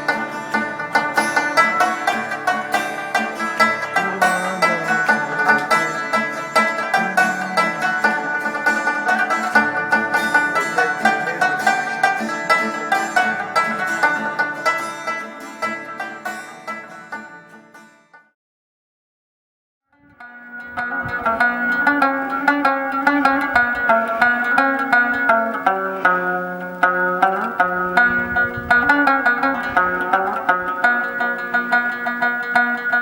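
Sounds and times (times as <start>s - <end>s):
plucked lute melody: 0.0s - 18.2s, 20.2s - 33.0s.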